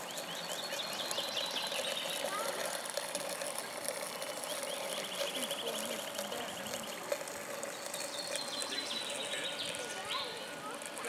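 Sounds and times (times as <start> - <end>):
faint distant voices: 0.0 - 11.0
faint steady hum: 0.0 - 11.0.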